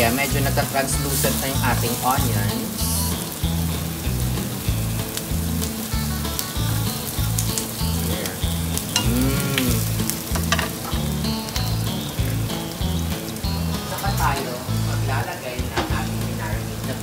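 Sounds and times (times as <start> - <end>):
onions sizzling in frying pan: 0.0 - 17.0.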